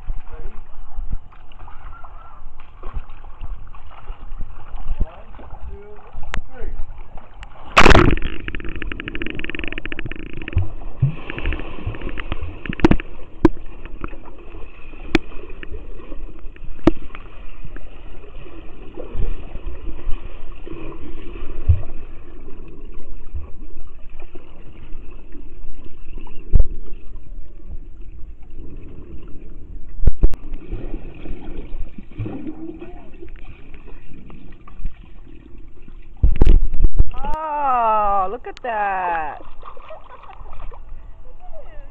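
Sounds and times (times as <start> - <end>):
muffled underwater water rush: 0.0 - 41.9.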